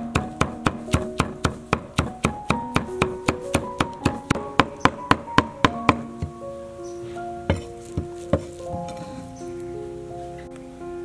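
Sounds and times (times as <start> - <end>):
light background music: 0.0 - 11.0.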